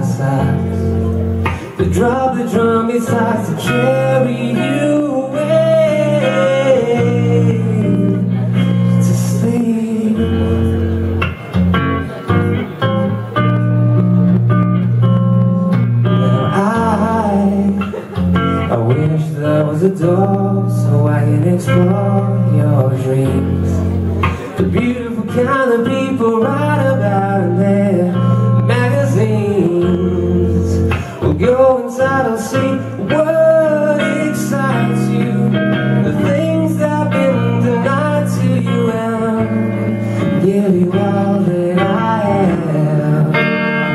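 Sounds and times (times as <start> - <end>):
man singing: 0.0 - 11.2, 16.0 - 43.9
guitar picked notes: 0.0 - 43.9.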